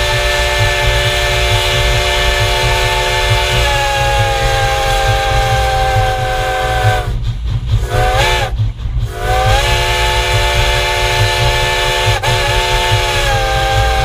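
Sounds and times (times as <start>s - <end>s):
steam locomotive chime whistle: 0.0s - 7.2s, 7.8s - 14.0s
low rumble of train: 0.0s - 14.0s.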